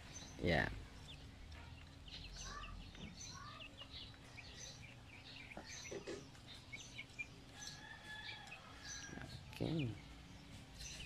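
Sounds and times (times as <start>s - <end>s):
chicks peeping faintly: 0.0s - 11.0s.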